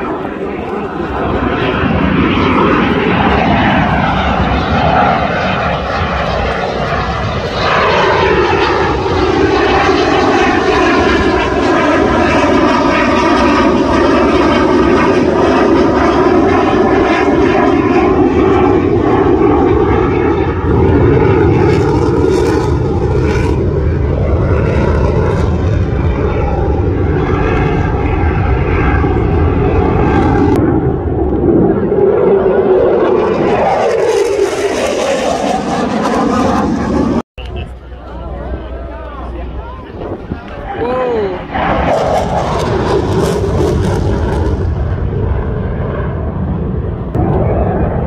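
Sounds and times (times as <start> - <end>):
fighter jet roaring: 0.0 - 48.0.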